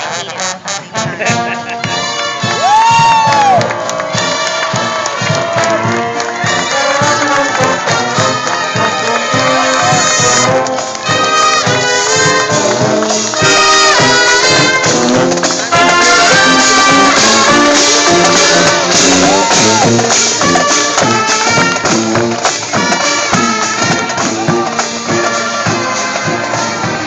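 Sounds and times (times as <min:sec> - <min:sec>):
marching brass band playing: 0:00.0 - 0:27.0.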